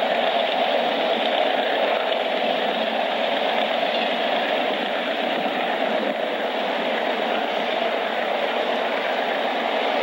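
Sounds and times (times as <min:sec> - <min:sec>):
freight train wheels on rails: 0:00.0 - 0:10.0.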